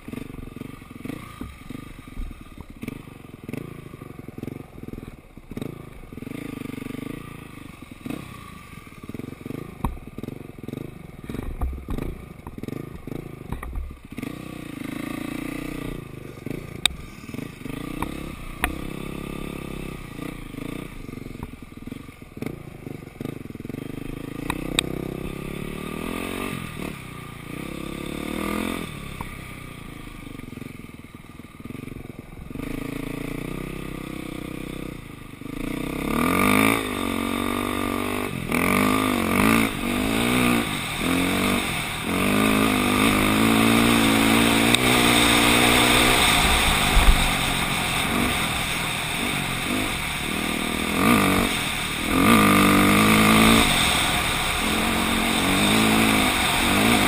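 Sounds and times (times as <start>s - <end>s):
dirt bike engine revving: 0.0s - 30.2s, 32.4s - 57.0s.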